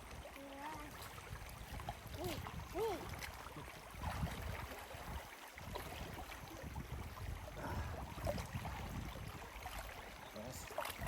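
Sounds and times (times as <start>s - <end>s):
river water splashing: 0.0s - 11.0s
wind rumbling on microphone: 0.0s - 11.0s.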